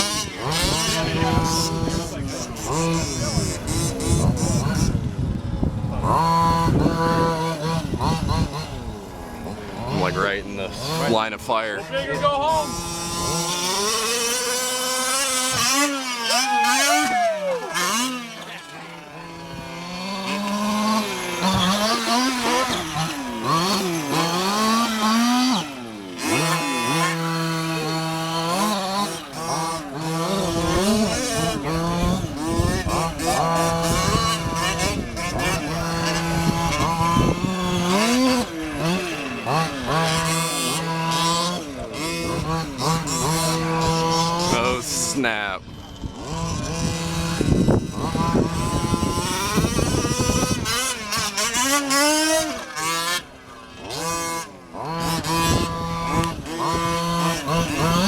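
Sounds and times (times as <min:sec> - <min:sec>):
small two-stroke engines revving: 0:00.0 - 0:58.0.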